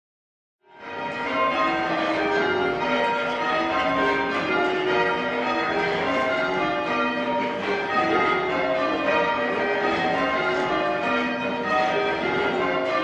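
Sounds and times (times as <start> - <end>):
church bells change ringing: 0.7 - 13.0.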